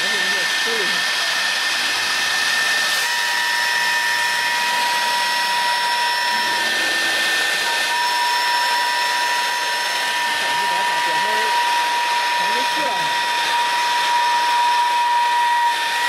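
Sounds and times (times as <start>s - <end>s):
lower steady whine: 0.0s - 16.0s
router spindle high whine: 0.0s - 16.0s.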